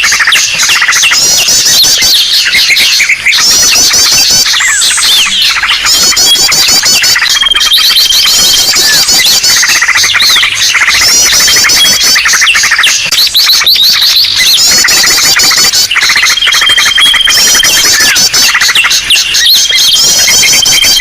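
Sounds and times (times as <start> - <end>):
many small birds chirping: 0.0 - 21.0.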